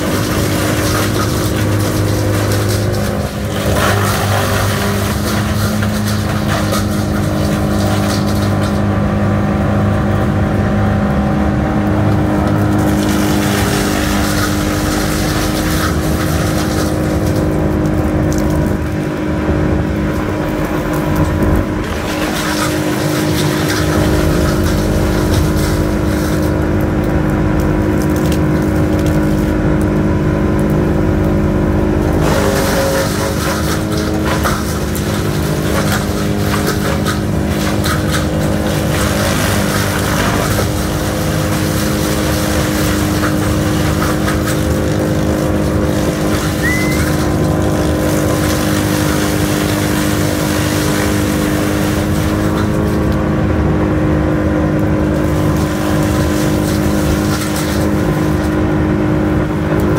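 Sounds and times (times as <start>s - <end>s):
diesel engine drone: 0.0s - 59.9s
wood chipper crackling and grinding: 0.0s - 59.9s.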